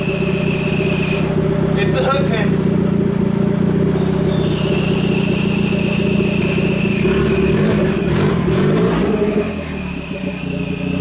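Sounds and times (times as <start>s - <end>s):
car engine revving: 0.0s - 11.0s
turbo whine: 0.0s - 11.0s.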